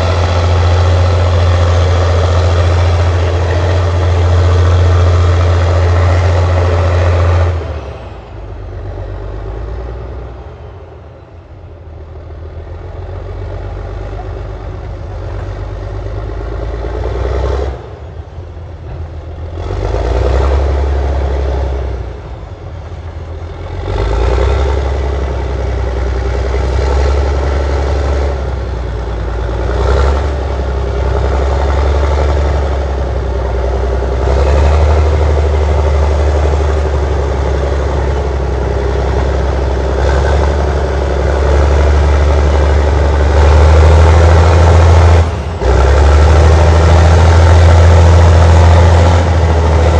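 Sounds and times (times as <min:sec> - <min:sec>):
bulldozer diesel engine working: 0:00.0 - 0:49.9.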